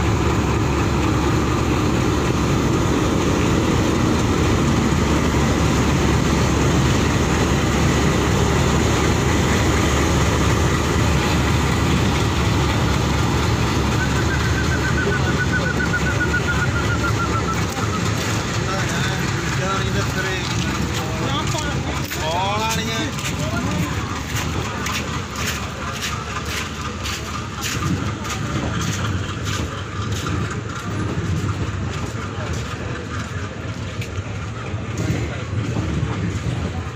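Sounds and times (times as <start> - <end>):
diesel locomotive engine running: 0.0 - 36.9
train coaches rolling past: 0.0 - 36.9.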